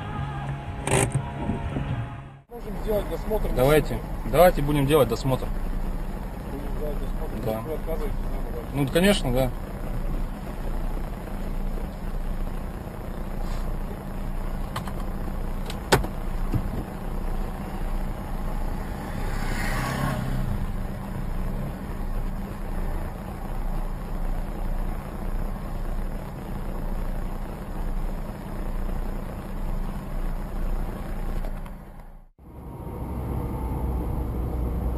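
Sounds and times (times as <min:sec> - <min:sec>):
vehicle hum and rumble: 0:00.0 - 0:34.9.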